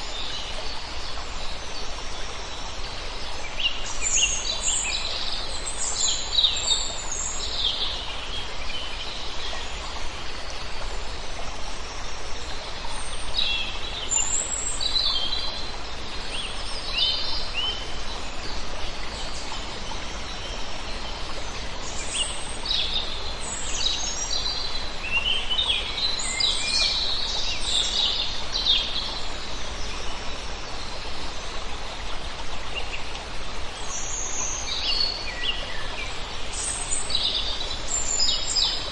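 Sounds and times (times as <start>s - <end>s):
steady background hiss: 0.0s - 38.9s.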